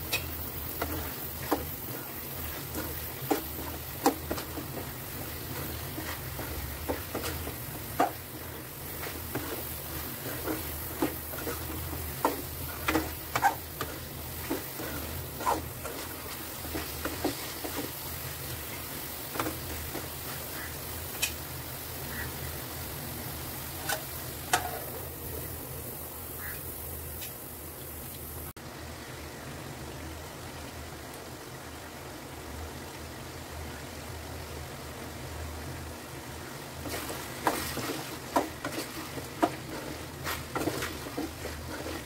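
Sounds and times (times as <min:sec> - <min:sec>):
low sizzle: 0:00.0 - 0:42.0.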